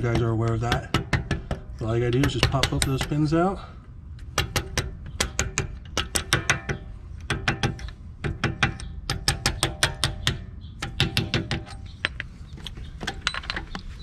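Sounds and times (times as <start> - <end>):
hammer tapping on metal: 0.0 - 3.3, 4.3 - 12.2.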